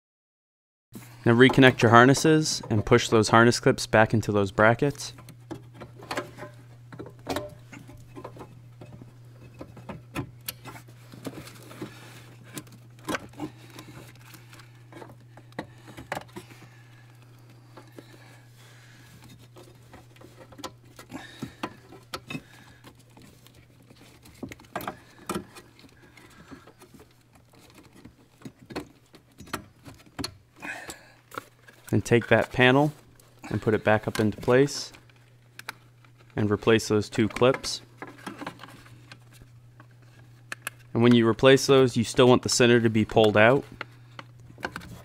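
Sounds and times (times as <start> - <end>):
steady low hum: 1.0 - 45.0.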